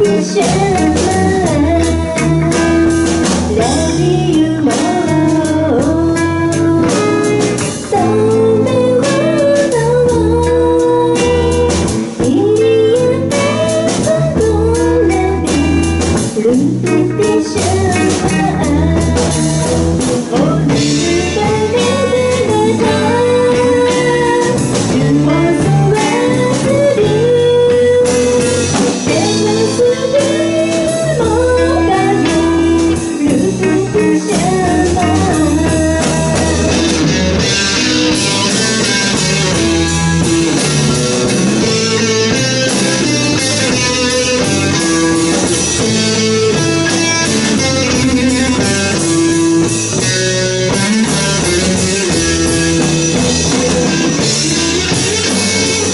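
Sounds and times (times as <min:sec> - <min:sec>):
woman singing: 0:00.0 - 0:40.0, 0:41.5 - 0:55.9
electric guitars: 0:00.0 - 0:55.9.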